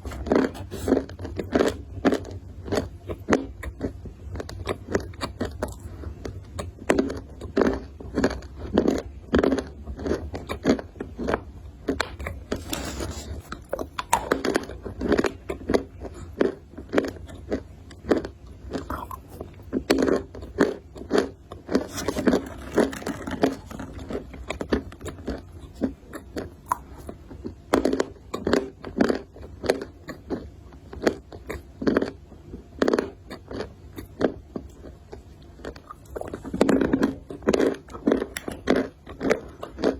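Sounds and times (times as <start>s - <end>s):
chewing brittle food crunching: 0.0s - 39.9s.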